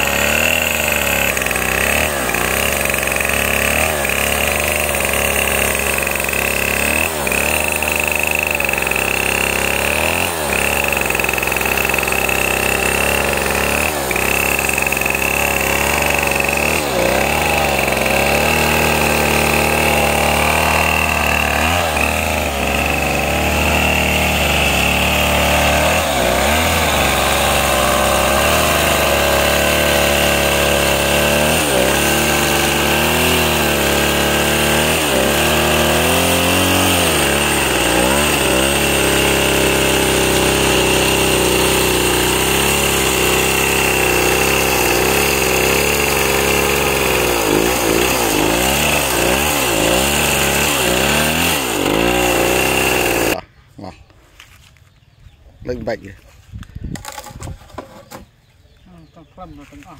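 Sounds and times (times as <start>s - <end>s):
chainsaw idling: 0.0s - 53.4s.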